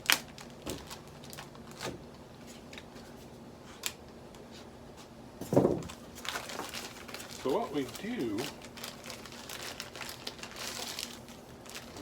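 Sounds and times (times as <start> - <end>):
plastic bag handling: 0.0 - 3.1, 5.4 - 12.0.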